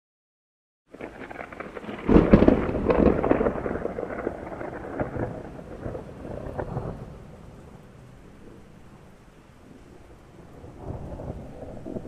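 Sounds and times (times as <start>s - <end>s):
thunder crack and rumble: 0.9s - 9.2s, 10.0s - 12.0s
rain on hard surface: 0.9s - 12.0s.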